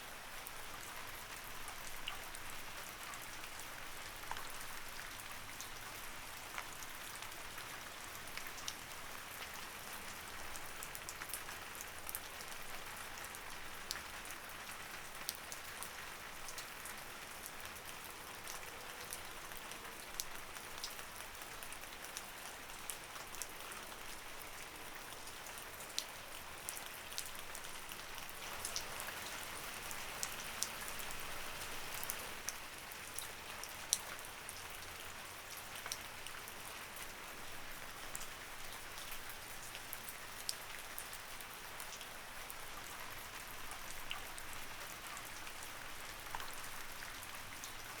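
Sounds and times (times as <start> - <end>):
light rain hiss: 0.0 - 48.0.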